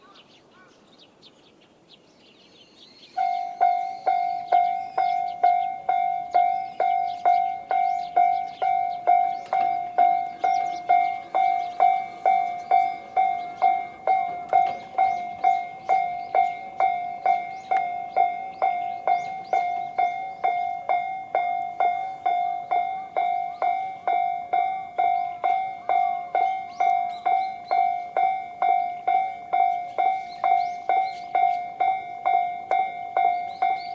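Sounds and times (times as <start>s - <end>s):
level crossing warning alarm dings: 3.1s - 33.9s.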